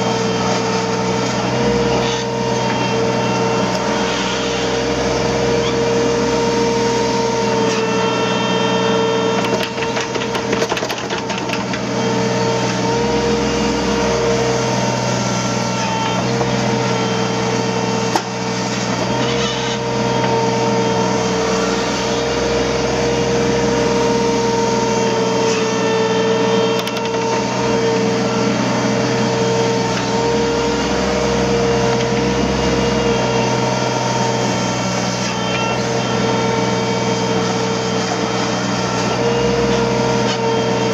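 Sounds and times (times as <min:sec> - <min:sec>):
excavator diesel engine: 0:00.0 - 0:40.9
hydraulic whine: 0:00.0 - 0:40.9.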